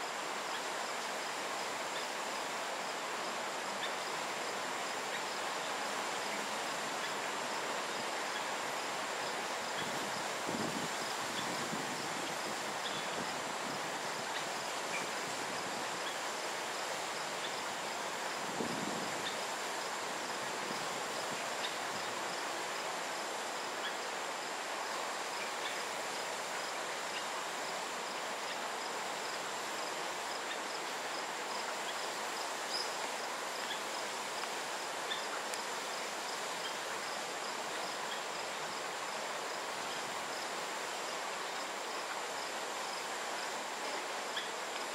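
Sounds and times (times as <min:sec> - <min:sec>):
background hiss: 0:00.0 - 0:44.9.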